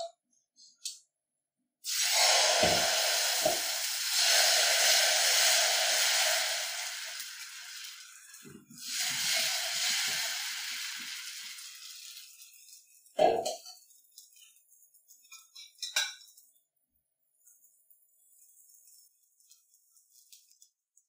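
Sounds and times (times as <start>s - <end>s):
batter sizzling on hot pan: 1.8s - 21.0s.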